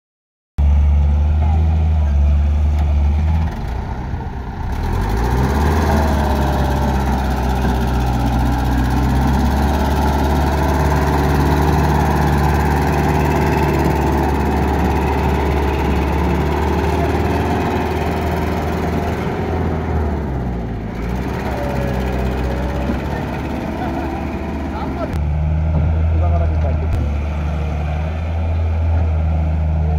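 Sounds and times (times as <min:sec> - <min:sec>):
heavy engine running: 0:00.6 - 0:29.9.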